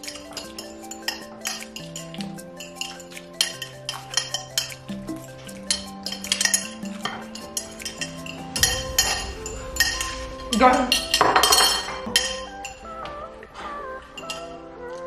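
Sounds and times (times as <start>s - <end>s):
forks clinking on plates: 0.0s - 9.2s, 10.9s - 12.8s, 13.6s - 14.6s
background music: 0.0s - 15.0s.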